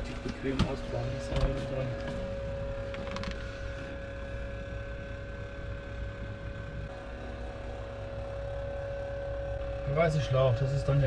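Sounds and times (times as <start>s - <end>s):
electric motor hum and whine: 0.0s - 11.0s.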